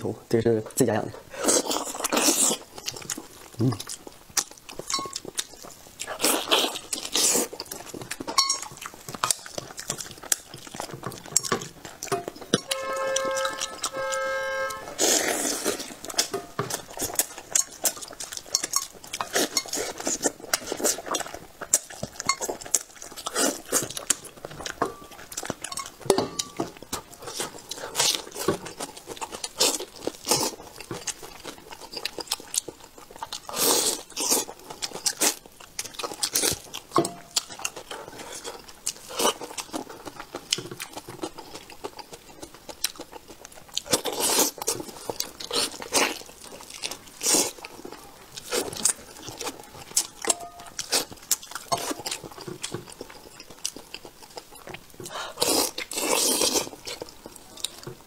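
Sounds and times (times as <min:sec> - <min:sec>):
wet chewing and lip-smacking: 0:01.3 - 0:58.0.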